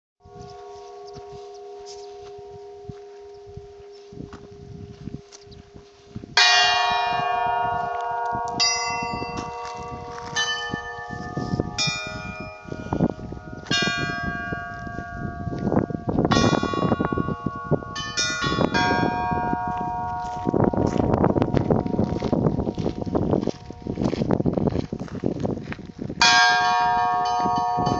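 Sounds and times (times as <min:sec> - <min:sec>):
church bells pealing: 0:00.2 - 0:24.4, 0:26.2 - 0:27.9.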